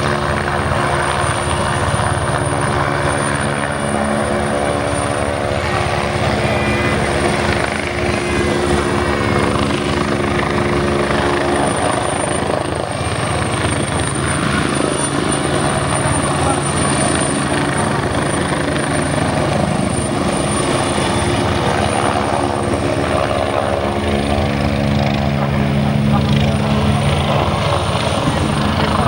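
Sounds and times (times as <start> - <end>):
helicopter hovering: 0.0 - 29.0.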